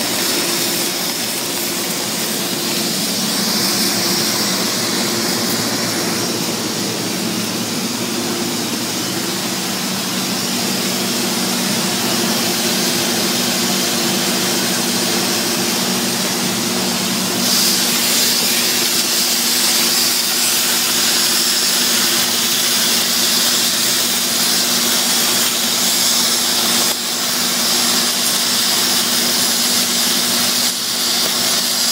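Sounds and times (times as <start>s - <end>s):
welding arc hissing: 0.0s - 31.9s.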